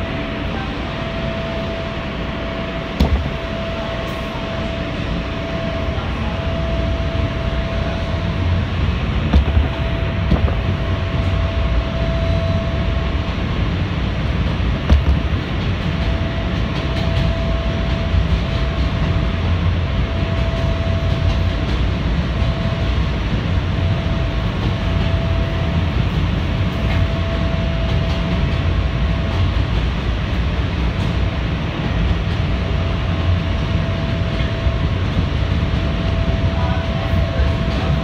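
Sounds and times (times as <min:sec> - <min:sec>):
train wheels rumbling on rail: 0:00.0 - 0:38.0
train whine: 0:00.0 - 0:38.0.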